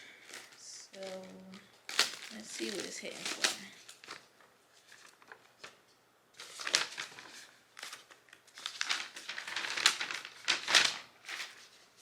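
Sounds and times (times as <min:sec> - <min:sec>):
plastic packaging crinkling: 0:00.1 - 0:05.8, 0:06.4 - 0:12.0.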